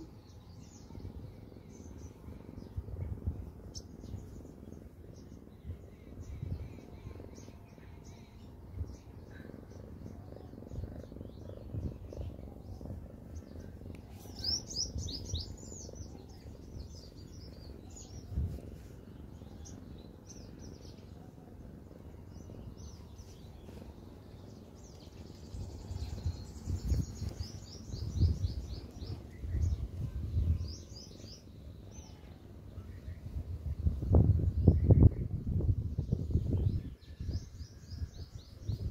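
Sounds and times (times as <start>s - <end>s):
kitten purring: 0.0s - 38.9s
small birds chirping: 0.0s - 38.9s.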